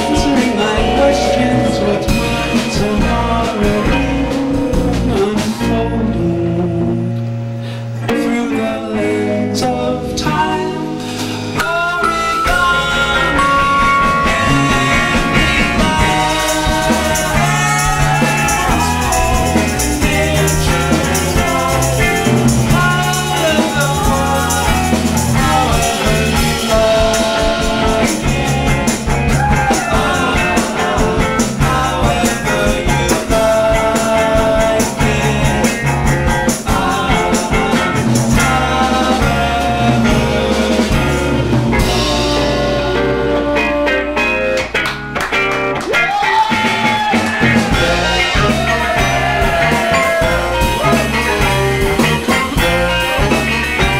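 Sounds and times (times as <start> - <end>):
live band playing: 0.0 - 53.9.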